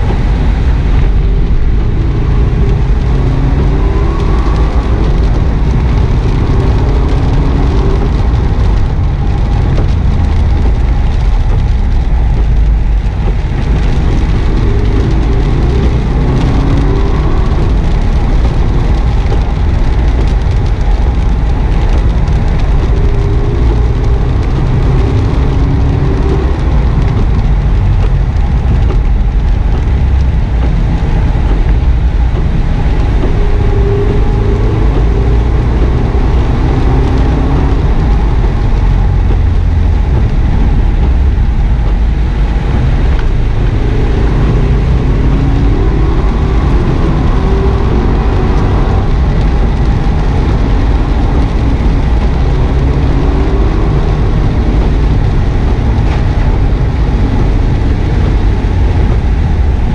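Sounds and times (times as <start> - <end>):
car engine revving: 0.0 - 59.9
tyre noise on wet road: 0.0 - 59.9.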